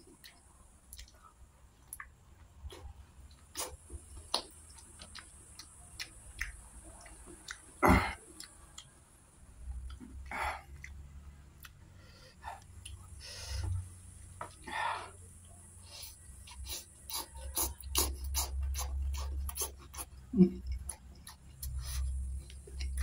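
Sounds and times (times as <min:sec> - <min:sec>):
mouth chewing and smacking: 0:00.0 - 0:09.1, 0:09.7 - 0:11.8, 0:12.4 - 0:13.7, 0:14.5 - 0:23.0.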